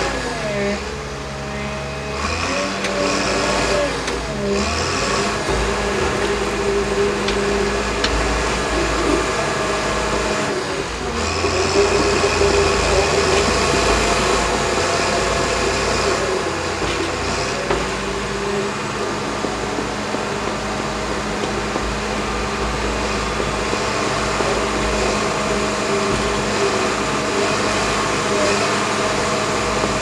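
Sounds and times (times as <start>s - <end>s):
bulldozer diesel engine under load: 0.0s - 30.0s.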